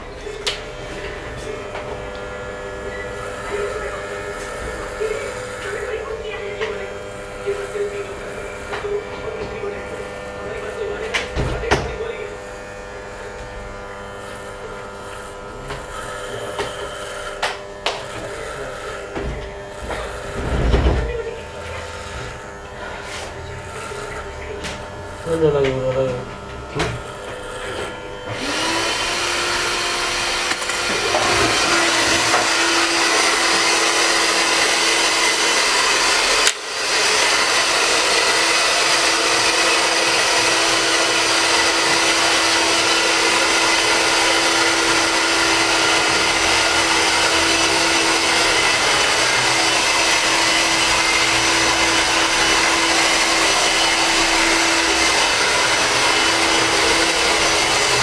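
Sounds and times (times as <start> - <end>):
electric hair clippers buzzing: 0.0 - 58.0.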